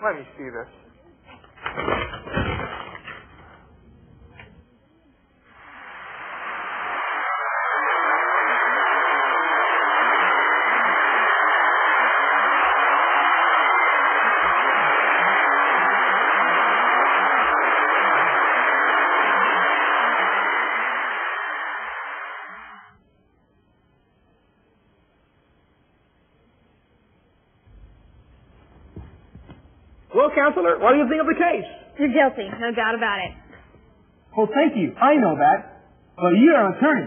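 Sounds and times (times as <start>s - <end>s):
loud static hiss: 0.0s - 23.5s, 26.4s - 37.0s.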